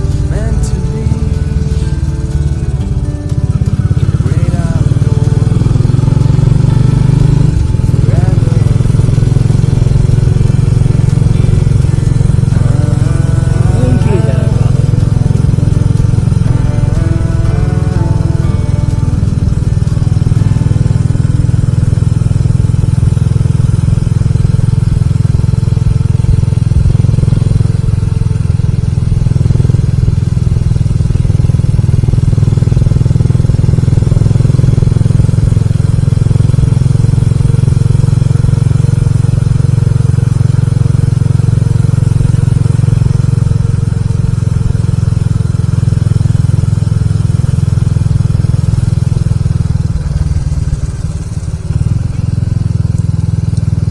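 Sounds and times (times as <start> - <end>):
motorcycle engine rumble: 0.0 - 53.9.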